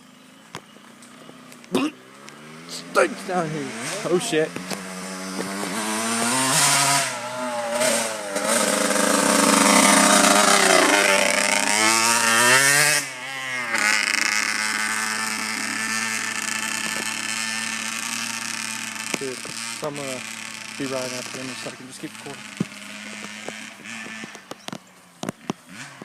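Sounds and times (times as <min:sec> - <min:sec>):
dirt bike engine revving: 0:00.9 - 0:26.0.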